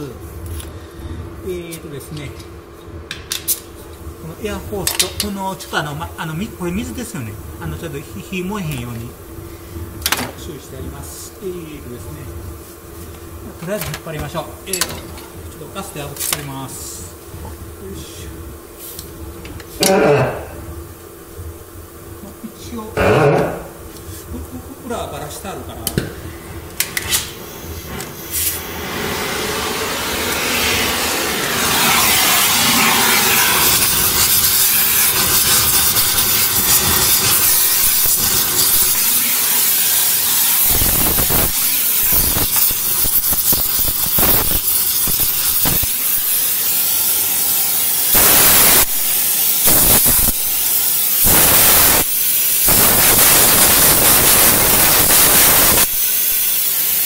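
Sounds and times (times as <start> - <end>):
gas torch flame hissing: 3.1 - 57.0.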